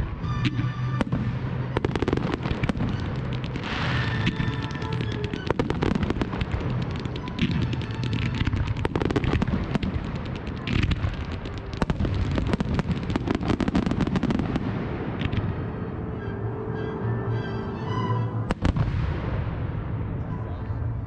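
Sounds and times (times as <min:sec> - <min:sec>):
fireworks bangs and crackles: 0:00.0 - 0:16.0, 0:18.5 - 0:20.2
low rumble: 0:00.0 - 0:21.0.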